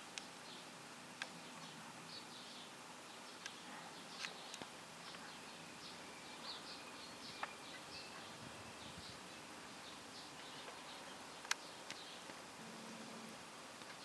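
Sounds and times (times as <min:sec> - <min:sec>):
distant birds chirping: 0:00.0 - 0:14.0.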